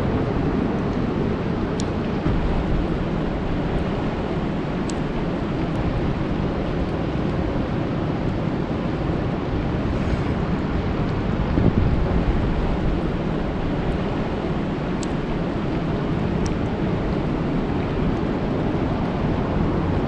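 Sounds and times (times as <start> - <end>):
rain falling on a lake: 0.1 - 9.8, 10.6 - 20.0.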